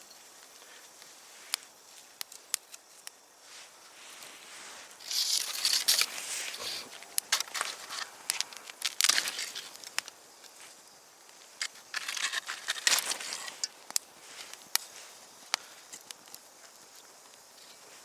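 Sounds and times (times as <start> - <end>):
rustling and crunching: 0.0 - 18.0
campfire crackling and popping: 0.3 - 18.0.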